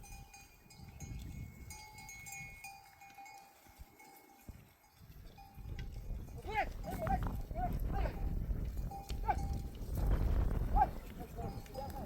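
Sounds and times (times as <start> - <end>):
sheep bells clinking: 0.0 - 12.0.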